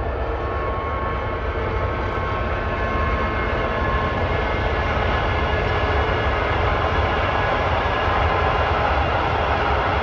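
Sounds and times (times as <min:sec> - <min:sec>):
diesel locomotive rumble and whine: 0:00.0 - 0:10.0.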